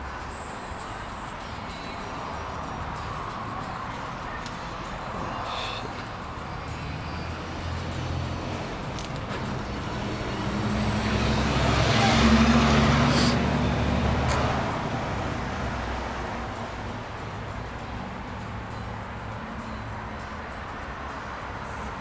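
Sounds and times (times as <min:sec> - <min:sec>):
engine humming: 0:00.0 - 0:20.2.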